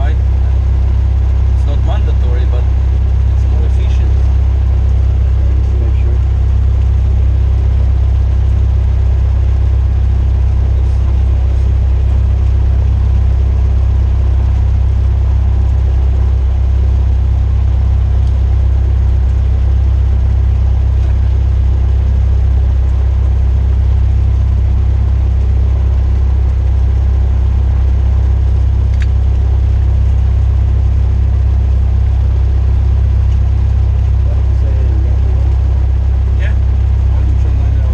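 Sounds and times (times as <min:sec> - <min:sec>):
airplane engine drone: 0:00.0 - 0:37.9.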